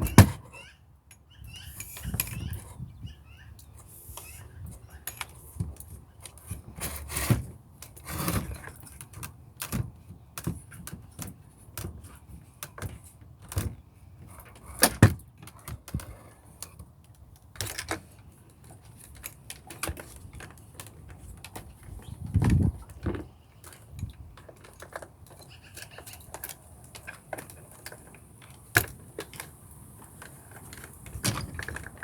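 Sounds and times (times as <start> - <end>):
hard plastic parts clicking and rattling: 4.2 - 32.0.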